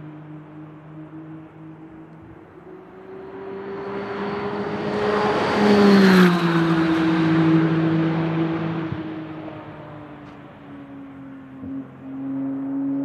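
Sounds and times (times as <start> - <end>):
race car passing by: 0.0 - 13.0.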